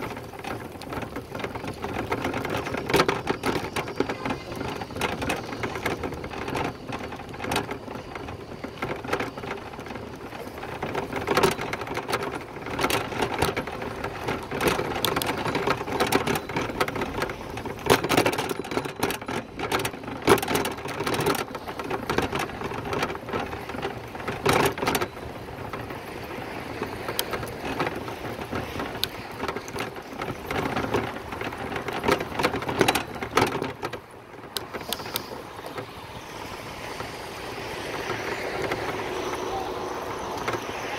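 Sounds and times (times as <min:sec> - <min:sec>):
bicycle jolts: 0:00.0 - 0:40.9
bicycle rattling and clicking: 0:00.0 - 0:40.9.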